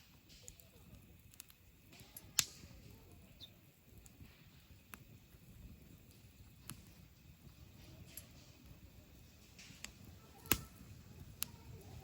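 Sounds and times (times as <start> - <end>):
campfire crackling: 0.0 - 12.0
sharp pops from fire: 0.0 - 12.0.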